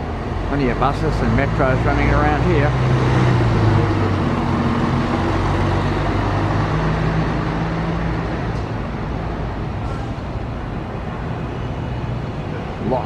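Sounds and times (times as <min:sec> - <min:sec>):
bus engine running: 0:00.0 - 0:13.0
road and traffic noise: 0:00.0 - 0:13.0.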